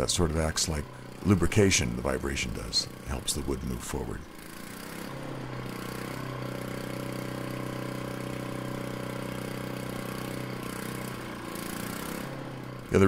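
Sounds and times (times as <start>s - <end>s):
small gas engine running: 0.0s - 13.0s.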